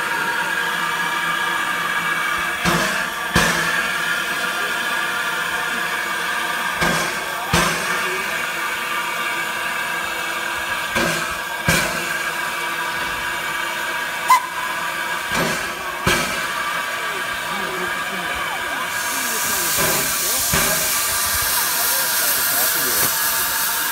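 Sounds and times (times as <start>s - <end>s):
steam locomotive hissing: 0.0s - 23.9s.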